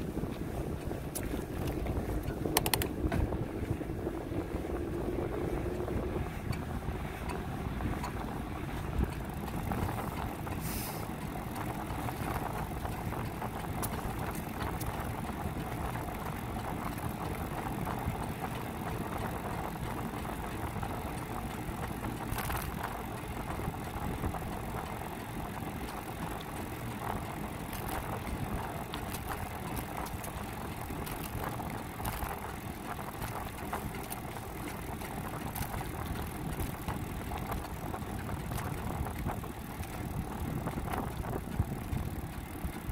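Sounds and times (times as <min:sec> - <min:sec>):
wind rush on microphone: 0:00.0 - 0:42.9
bike clicks and rattles: 0:00.1 - 0:42.9.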